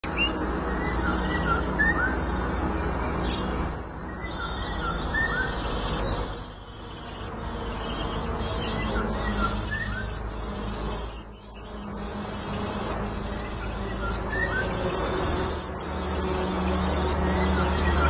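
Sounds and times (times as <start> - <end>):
high-pitched background buzz: 0.0 - 18.0
small birds chirping: 0.0 - 18.0.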